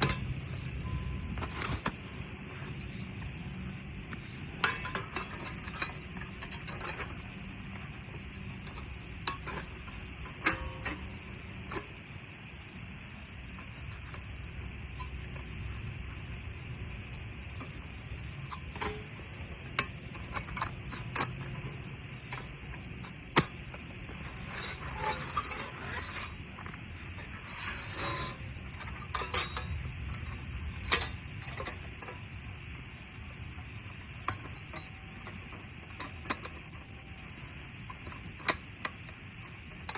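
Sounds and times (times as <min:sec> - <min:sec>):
sharp clicks and knocks: 0:00.0 - 0:03.4, 0:04.0 - 0:12.0, 0:17.4 - 0:32.9, 0:34.2 - 0:39.9
crickets trilling: 0:00.0 - 0:39.9.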